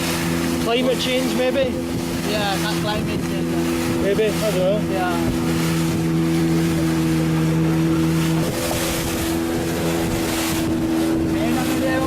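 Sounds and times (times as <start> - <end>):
boat engine running: 0.0 - 12.0
water noise: 0.0 - 12.0
wind: 0.0 - 12.0.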